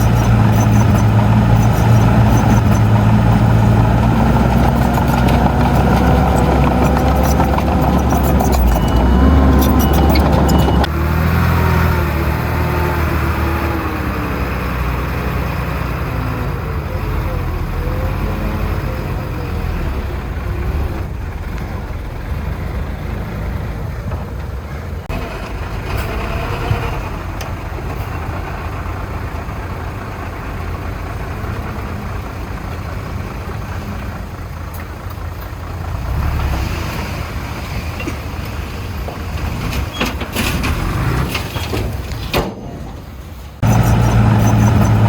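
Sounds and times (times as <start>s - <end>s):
diesel earthmoving machinery running: 0.0s - 45.0s.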